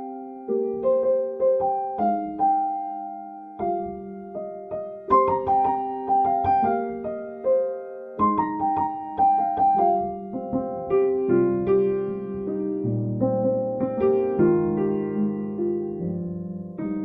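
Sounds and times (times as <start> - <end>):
solo piano melody: 0.0 - 17.0.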